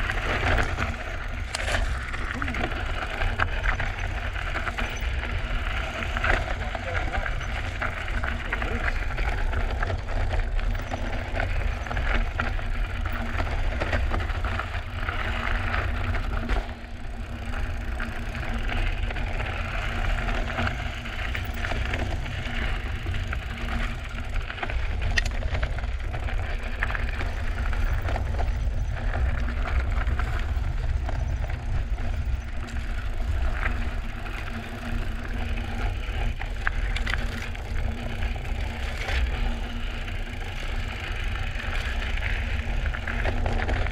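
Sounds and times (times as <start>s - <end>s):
bike tyres crunching over gravel: 0.0s - 43.9s
sharp clicks and rattles: 0.0s - 43.9s.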